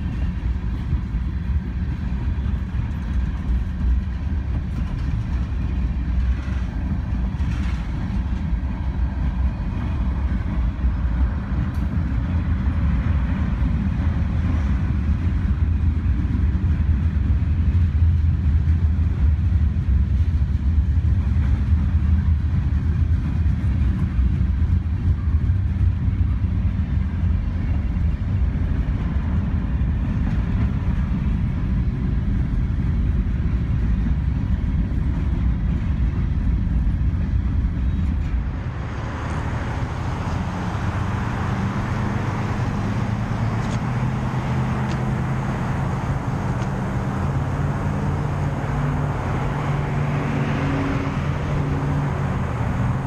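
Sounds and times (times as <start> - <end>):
freight train rolling past: 0.0 - 53.0.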